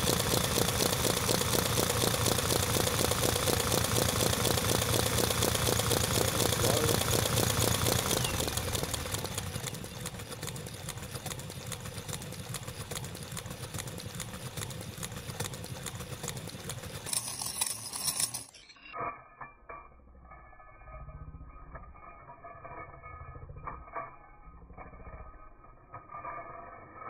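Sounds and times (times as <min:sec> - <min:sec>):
model engine gears clattering: 0:00.0 - 0:27.0.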